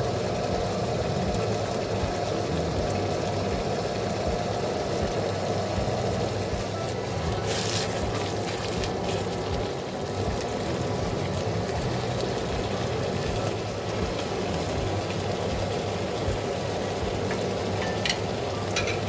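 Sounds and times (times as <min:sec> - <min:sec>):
sauce bubbling and sizzling in a wok: 0:00.0 - 0:19.0
steady low hum: 0:00.0 - 0:19.0.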